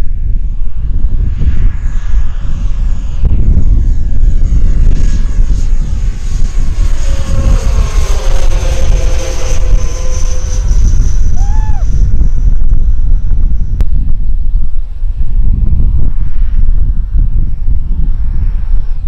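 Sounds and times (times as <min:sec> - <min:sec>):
model jet fans whining: 0:00.0 - 0:19.0
wind rumble on microphone: 0:00.0 - 0:19.0.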